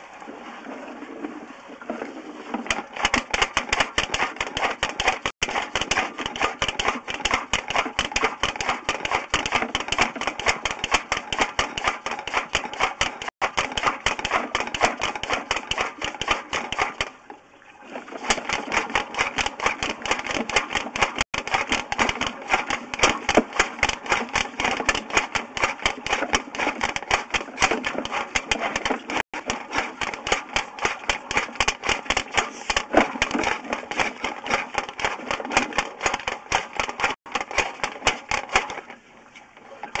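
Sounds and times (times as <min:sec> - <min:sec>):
rapid clatter of ticks: 0:02.7 - 0:17.1, 0:18.3 - 0:38.8.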